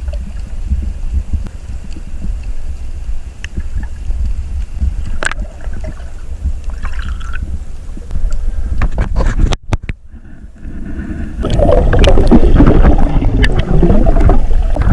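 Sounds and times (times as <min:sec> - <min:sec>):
low rumble: 0:00.0 - 0:14.9
water sloshing and gurgling: 0:00.0 - 0:14.9.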